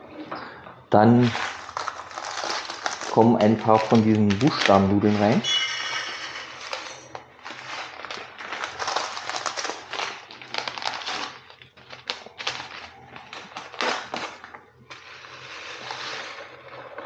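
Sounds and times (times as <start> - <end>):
plastic packaging crinkling: 1.0 - 17.0
sachet tearing open: 1.2 - 5.5, 6.4 - 17.0.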